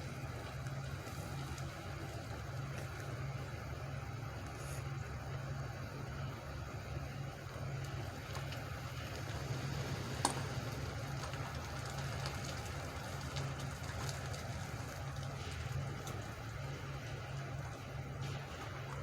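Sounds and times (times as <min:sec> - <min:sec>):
distant truck engine running: 0:00.0 - 0:19.0.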